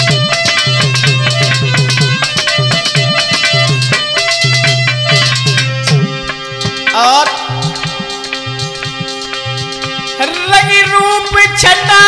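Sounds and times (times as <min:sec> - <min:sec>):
hand drum strokes: 0:00.0 - 0:10.3
harmonium melody: 0:00.0 - 0:12.0.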